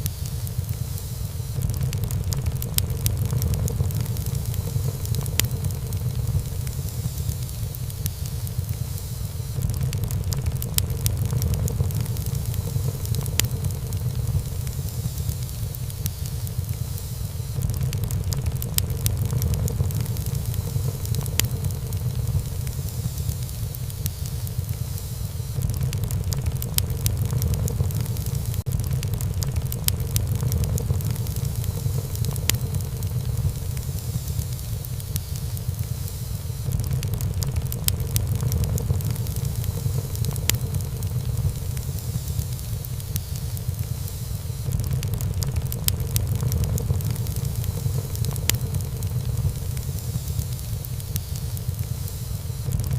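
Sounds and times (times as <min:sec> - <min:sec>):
low rumble of flames: 0:00.0 - 0:52.9
wood crackling and popping: 0:00.0 - 0:52.9.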